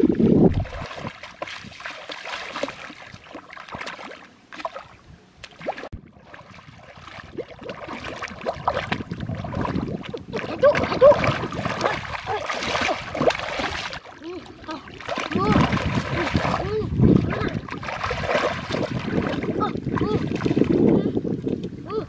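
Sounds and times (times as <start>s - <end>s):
muddy water sloshing: 0.0s - 22.0s.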